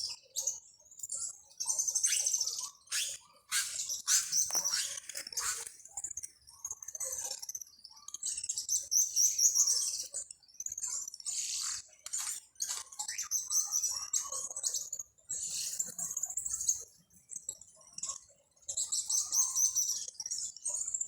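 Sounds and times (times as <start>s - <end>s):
birds chirping and twittering: 0.0s - 21.0s.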